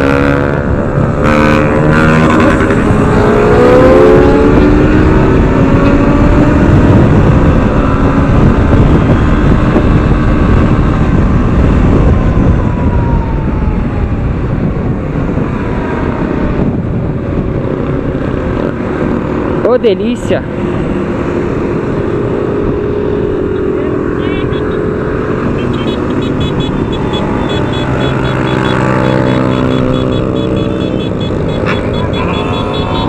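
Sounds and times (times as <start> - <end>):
motorcycle engine accelerating: 0.0 - 19.8, 20.4 - 33.0.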